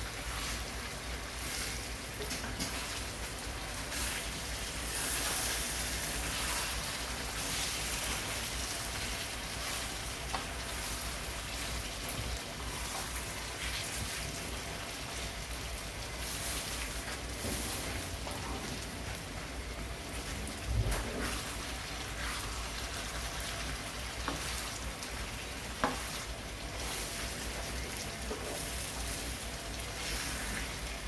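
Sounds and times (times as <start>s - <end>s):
fish frying in oil: 0.0s - 31.0s.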